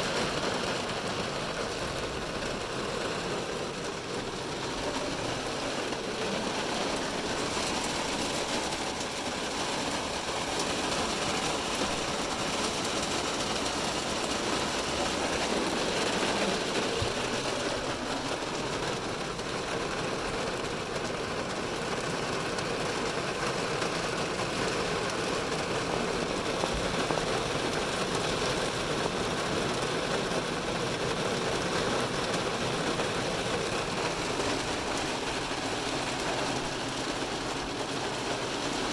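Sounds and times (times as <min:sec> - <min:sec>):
heavy rain on car roof: 0:00.0 - 0:38.9.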